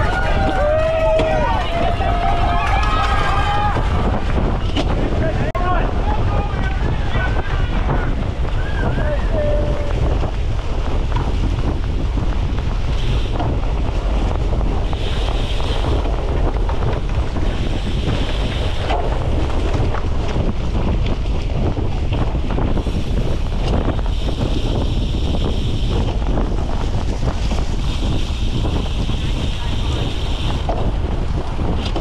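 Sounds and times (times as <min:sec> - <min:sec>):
bike rattling over rough ground: 0:00.0 - 0:32.0
wind buffeting microphone: 0:00.0 - 0:32.0.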